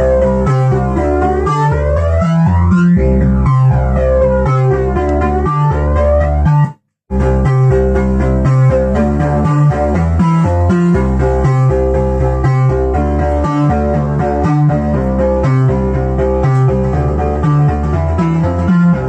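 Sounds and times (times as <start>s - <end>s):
synthesizer music with bass line: 0.0s - 19.0s.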